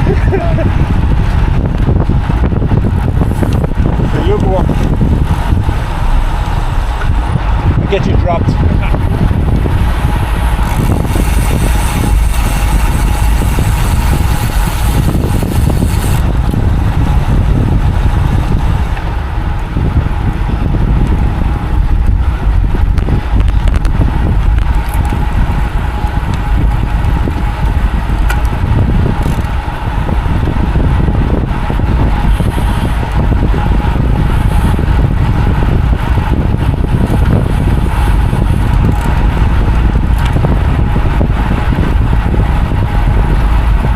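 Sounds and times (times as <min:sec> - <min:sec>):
bicycle road noise: 0:00.0 - 0:43.9
wind rush on microphone: 0:00.0 - 0:43.9.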